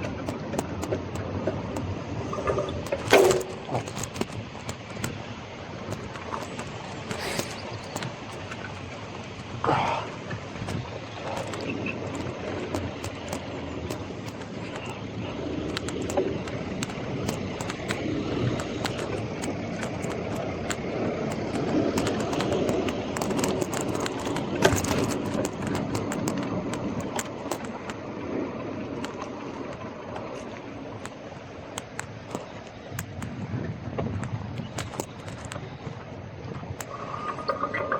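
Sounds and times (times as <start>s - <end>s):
bike clicking and rattling: 0.0s - 37.9s
bike tyre road noise: 0.0s - 37.9s.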